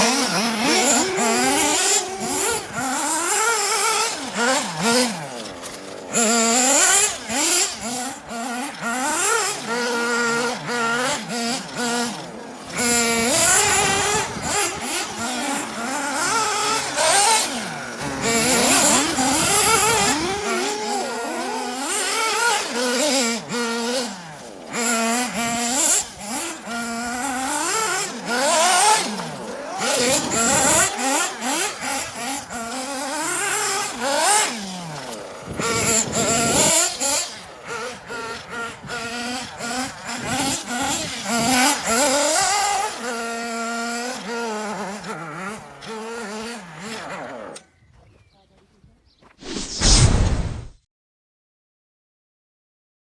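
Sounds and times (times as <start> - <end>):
small engine revving: 0.0 - 48.3, 49.4 - 50.8.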